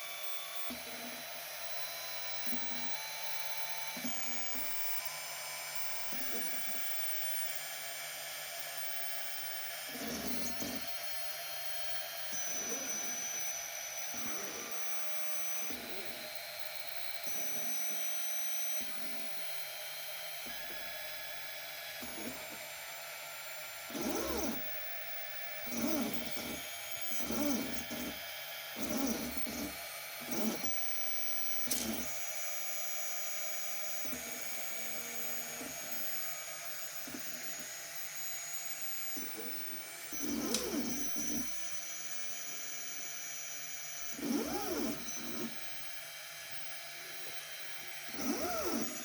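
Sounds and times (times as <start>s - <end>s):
robotic arm motors whining: 0.0s - 49.0s.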